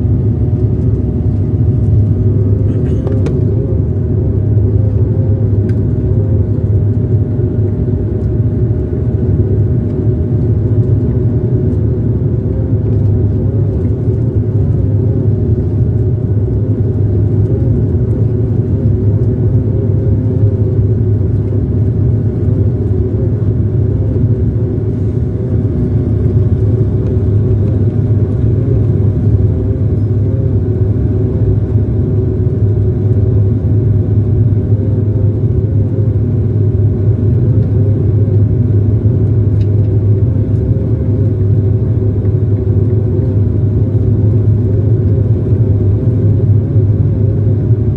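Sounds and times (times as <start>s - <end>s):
airliner engines droning in cabin: 0.0s - 47.9s.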